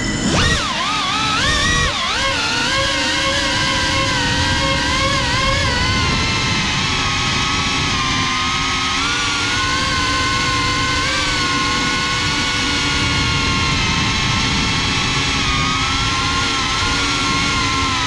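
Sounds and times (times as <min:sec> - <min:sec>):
drone motors whining: 0:00.0 - 0:18.0
low wind rumble: 0:00.0 - 0:18.0.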